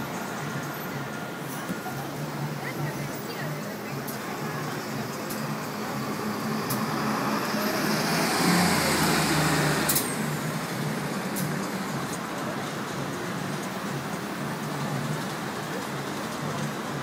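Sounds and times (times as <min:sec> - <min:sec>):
bus driving by: 0:00.0 - 0:17.0.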